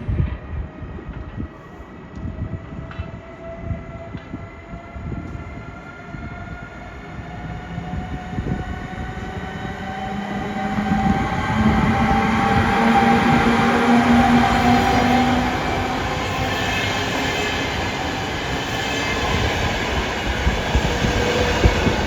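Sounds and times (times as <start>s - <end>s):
low train rumble: 0.0s - 22.0s
electric locomotive motor whine: 2.1s - 22.0s.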